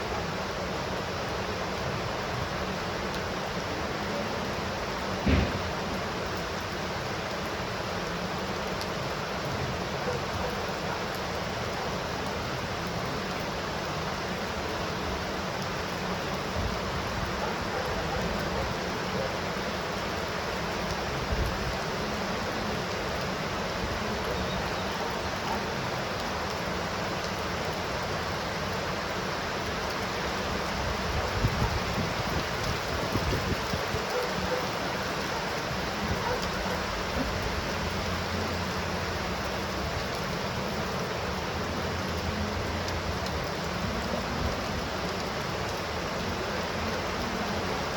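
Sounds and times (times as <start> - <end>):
heavy rainfall: 0.0 - 47.9.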